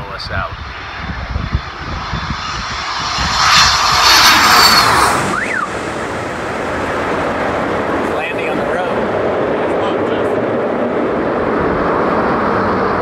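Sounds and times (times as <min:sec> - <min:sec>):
fighter jet flying overhead: 0:00.0 - 0:13.0.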